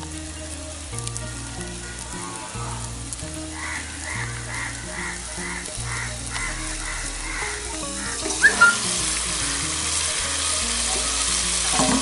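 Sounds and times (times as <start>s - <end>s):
low background music: 0.0s - 12.0s
meat sizzling in a pot: 0.0s - 12.0s.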